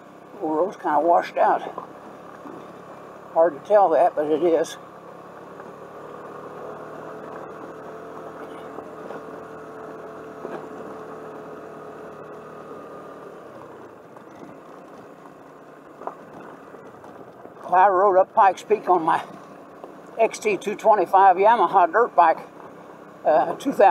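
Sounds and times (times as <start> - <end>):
motor scooter engine whine: 0.0 - 23.9.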